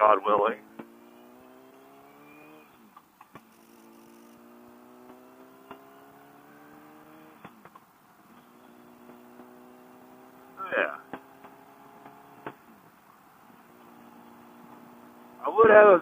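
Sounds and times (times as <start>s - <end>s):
faint motorcycle engine revving: 0.0s - 16.0s.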